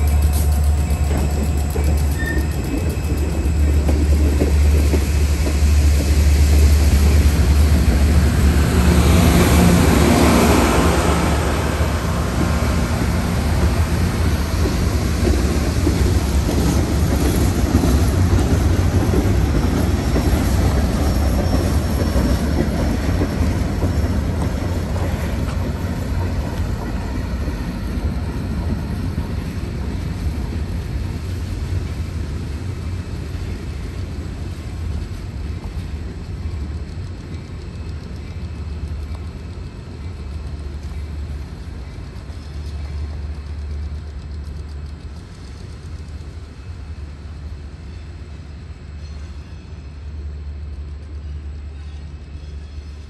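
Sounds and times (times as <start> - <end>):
train wheels rumbling and clacking: 0.0 - 53.0.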